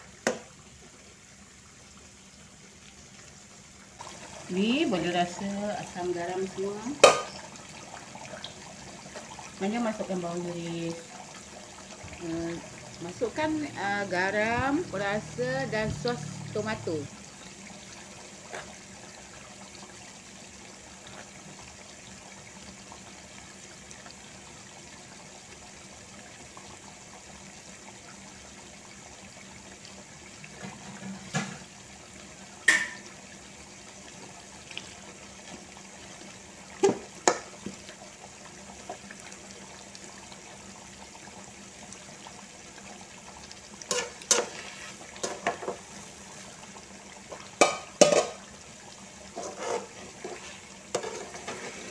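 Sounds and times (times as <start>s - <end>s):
sauce simmering and bubbling: 0.0s - 51.9s.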